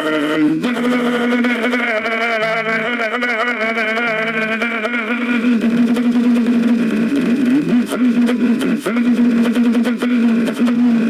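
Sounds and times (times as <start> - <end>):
low electronic hum: 0.0 - 11.0
warbling electronic tones: 0.0 - 11.0.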